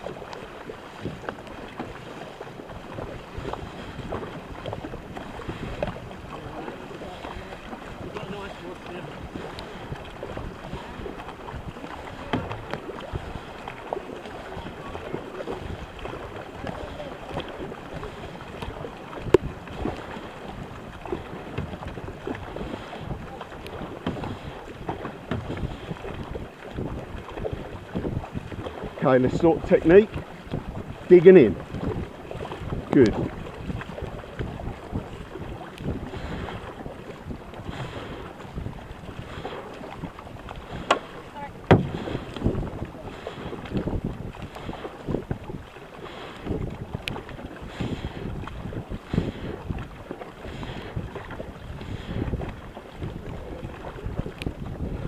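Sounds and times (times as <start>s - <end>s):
paddle splashes: 0.0s - 55.0s
water rushing along hull: 0.0s - 55.0s
wind noise on microphone: 0.9s - 8.5s, 9.2s - 13.6s, 14.3s - 55.0s.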